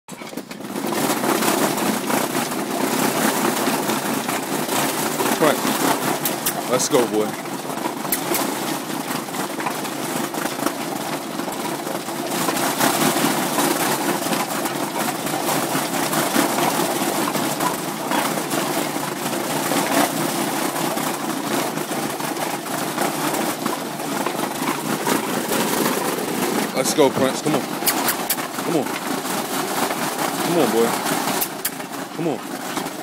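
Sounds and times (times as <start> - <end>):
dog treadmill rattling rumble: 0.1 - 33.0.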